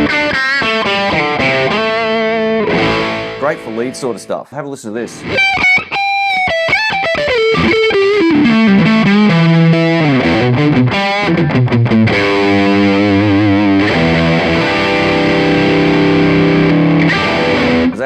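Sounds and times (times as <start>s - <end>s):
distorted electric guitar lead: 0.0s - 4.3s, 5.1s - 18.0s.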